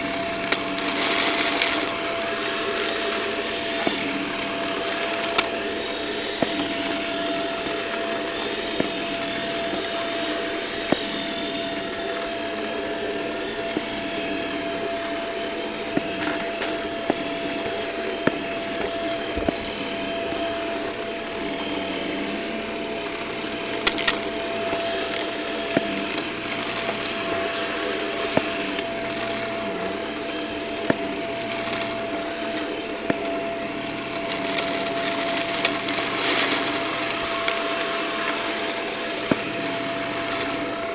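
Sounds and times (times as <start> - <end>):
debris clicking in vacuum: 0.0 - 40.9
vacuum cleaner running: 0.0 - 40.9.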